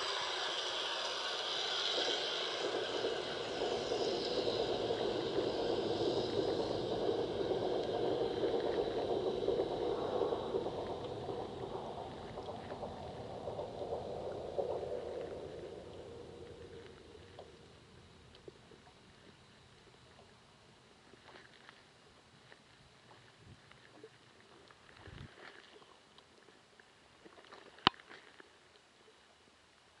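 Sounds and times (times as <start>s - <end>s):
muffled underwater rushing: 0.0s - 28.4s.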